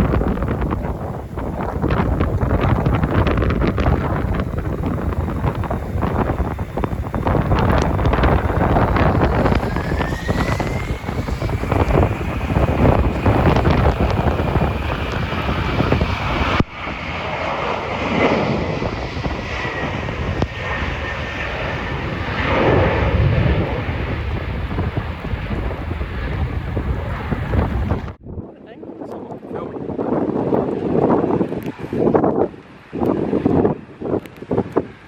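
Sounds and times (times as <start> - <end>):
airliner engines whining: 0.0 - 35.0
wind buffeting microphone: 0.0 - 35.0.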